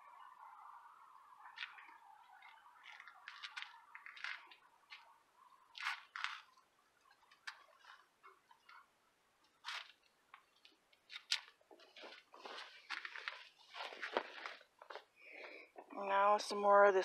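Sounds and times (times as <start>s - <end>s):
water drips and crackles in soil: 0.2s - 15.6s.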